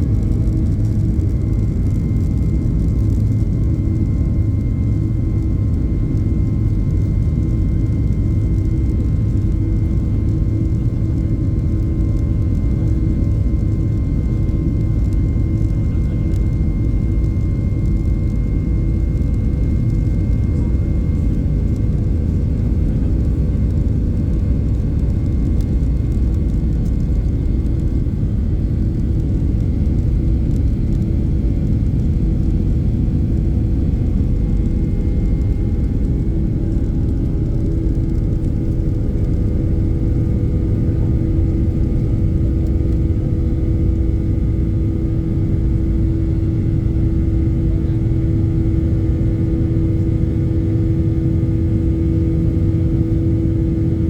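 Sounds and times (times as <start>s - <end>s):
jet engines roaring in cabin: 0.0s - 54.0s.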